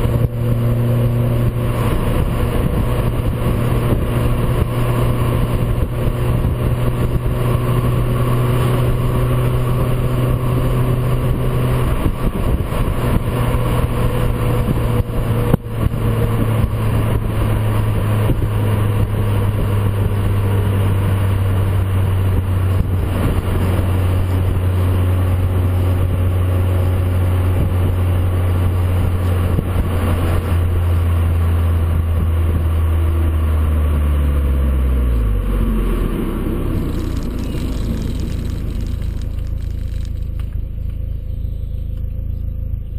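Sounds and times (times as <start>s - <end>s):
car exhaust droning: 0.0s - 42.9s.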